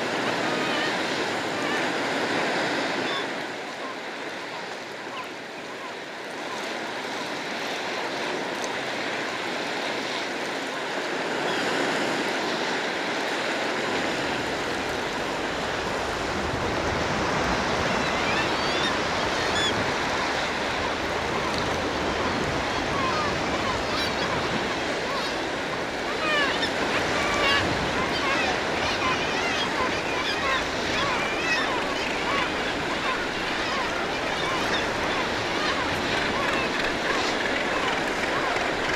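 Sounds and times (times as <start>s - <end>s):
sea surf rushing: 0.0s - 5.1s, 6.0s - 38.9s
seabird calls: 0.0s - 6.8s, 13.6s - 38.9s.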